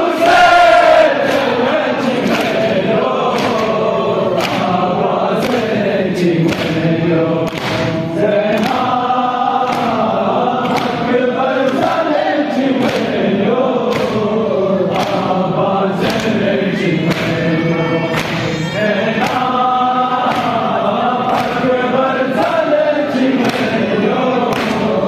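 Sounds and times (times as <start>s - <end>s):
men chanting in unison: 0.0s - 25.0s
hand slaps on chests: 0.2s - 17.5s, 18.1s - 18.5s, 19.2s - 25.0s.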